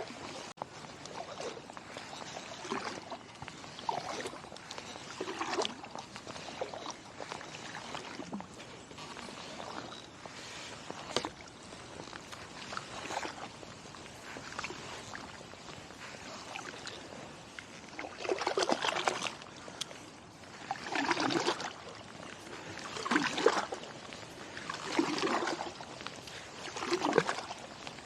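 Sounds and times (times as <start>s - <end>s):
kayak paddle splashing in water: 0.0s - 28.0s.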